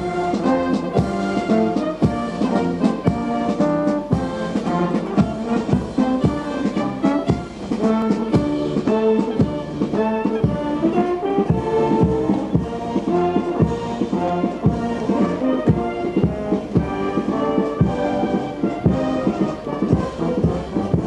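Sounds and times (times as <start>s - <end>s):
brass band playing a march: 0.0s - 21.0s
steady drum beat: 0.0s - 21.0s.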